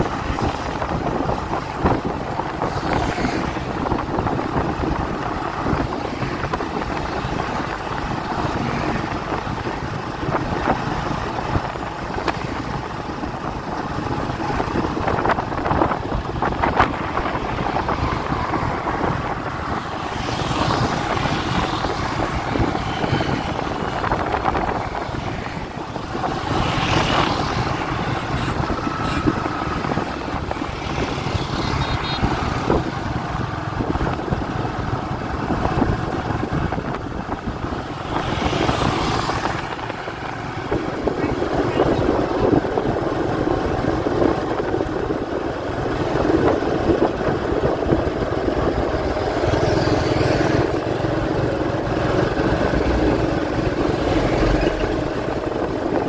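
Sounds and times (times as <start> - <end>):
vehicle road and engine noise: 0.0 - 56.0
wind rushing over microphone: 0.0 - 56.0.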